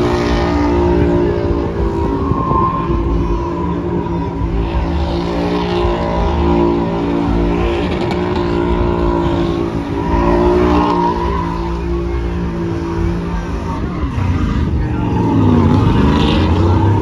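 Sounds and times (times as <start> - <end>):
tires spinning and squealing: 0.0 - 17.0
truck engine at high revs: 0.0 - 17.0.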